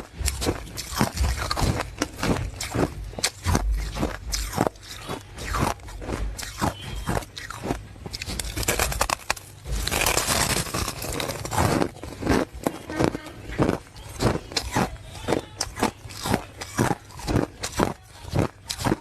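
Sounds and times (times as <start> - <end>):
chewing ice cubes crunching: 0.0 - 19.0.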